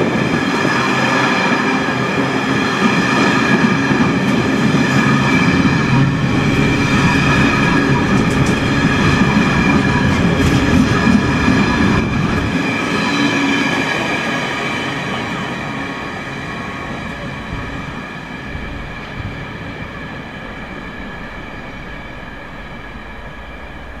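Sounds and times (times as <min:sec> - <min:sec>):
freight train wagons rumbling: 0:02.1 - 0:24.0.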